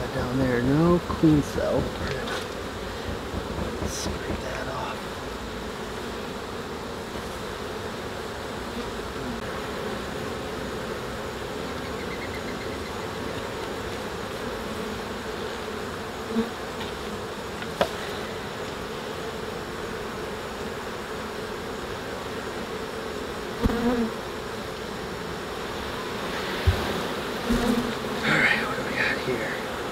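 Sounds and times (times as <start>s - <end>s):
honey bees humming: 0.0s - 29.9s.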